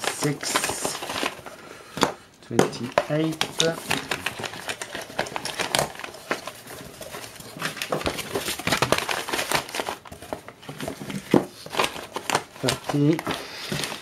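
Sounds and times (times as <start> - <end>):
newspaper rustling and crinkling: 0.0 - 14.0.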